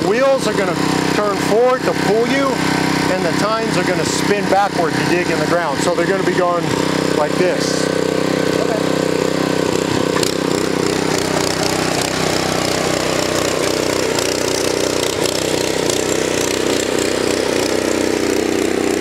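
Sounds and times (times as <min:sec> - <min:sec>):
tiller engine churning soil: 0:00.0 - 0:19.0.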